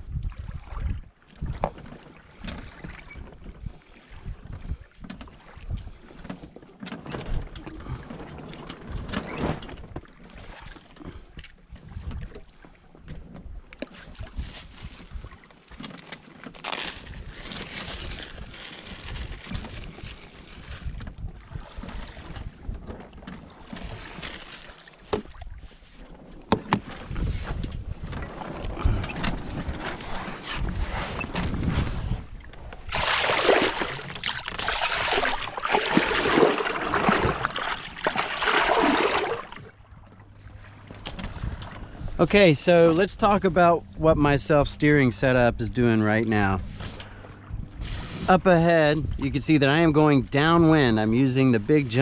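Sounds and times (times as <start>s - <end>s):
wind on microphone: 0.0s - 6.2s, 7.2s - 12.5s, 13.3s - 15.4s, 16.9s - 24.4s, 25.2s - 42.3s, 46.5s - 51.0s
water washing along hull: 0.0s - 45.1s.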